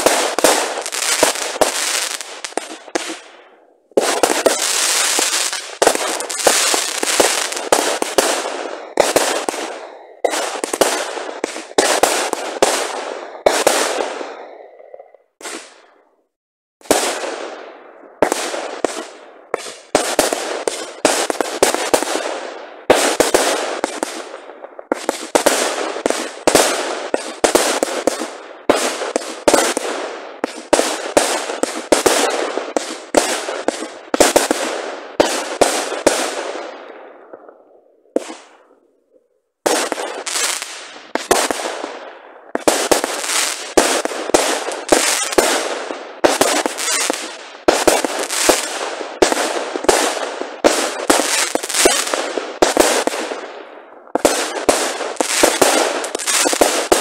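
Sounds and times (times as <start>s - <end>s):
fireworks bangs: 0.0s - 16.0s, 16.8s - 57.0s.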